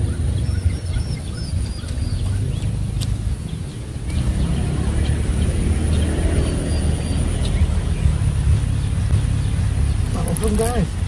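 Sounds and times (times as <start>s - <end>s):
bird chirps: 0.0s - 11.0s
low rumble: 0.0s - 11.0s.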